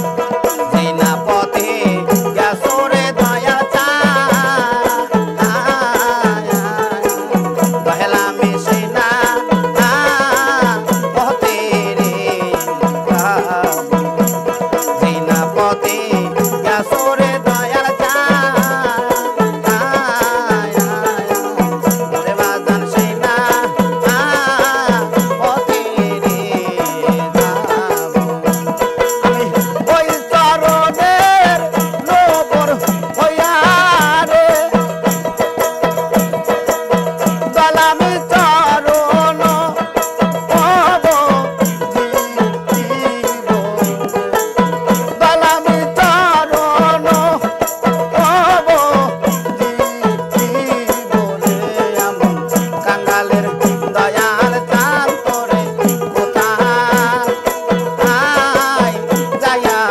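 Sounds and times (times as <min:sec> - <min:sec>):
hand drum steady beat: 0:00.0 - 0:59.9
man singing with group: 0:00.0 - 0:59.9
plucked string instrument: 0:00.0 - 0:59.9
tambourine jingles: 0:00.0 - 0:59.9.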